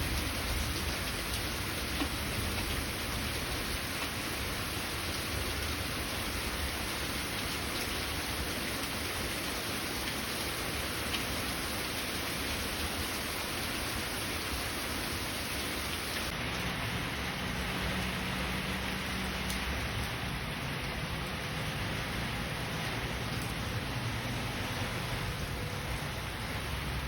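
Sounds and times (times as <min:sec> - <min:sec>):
rain pattering on surfaces: 0:00.0 - 0:27.0.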